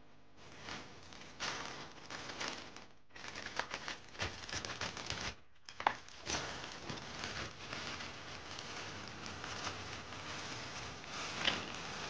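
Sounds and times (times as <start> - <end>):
dry chips rustling and crackling: 1.3 - 12.0.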